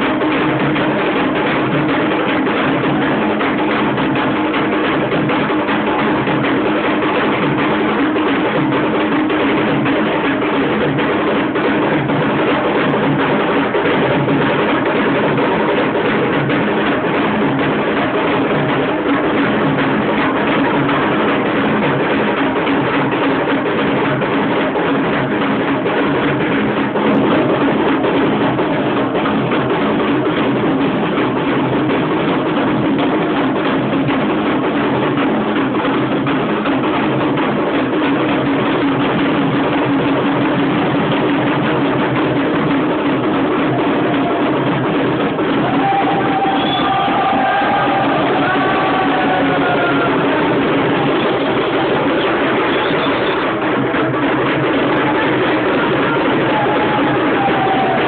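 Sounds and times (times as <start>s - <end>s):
traditional drumming and percussion: 0.0s - 58.0s.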